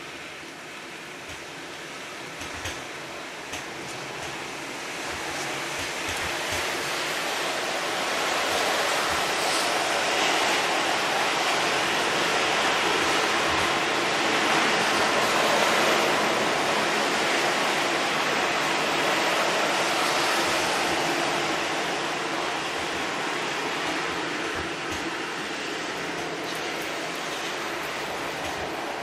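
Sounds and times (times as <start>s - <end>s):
heavy rain and wind: 0.0s - 29.0s.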